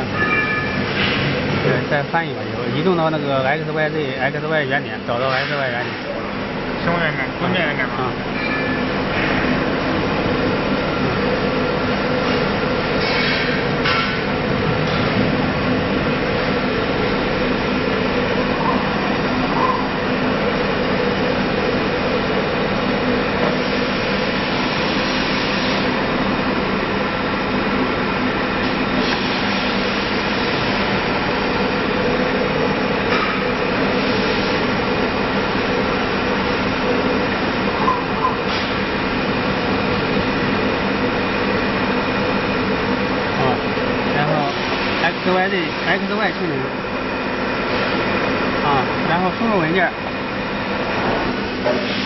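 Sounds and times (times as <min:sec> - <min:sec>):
router machinery humming: 0:01.4 - 0:52.0.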